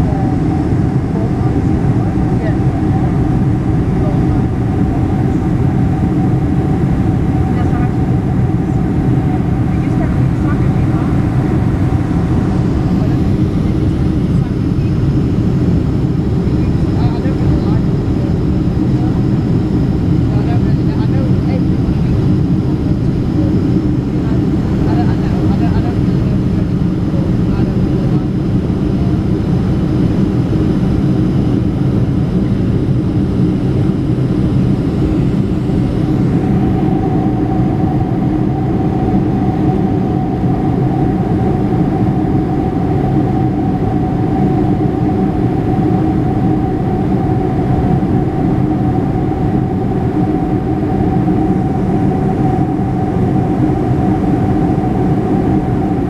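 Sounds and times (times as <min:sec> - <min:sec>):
aircraft engine drone: 0:00.0 - 0:56.0
steady whine: 0:00.0 - 0:56.0.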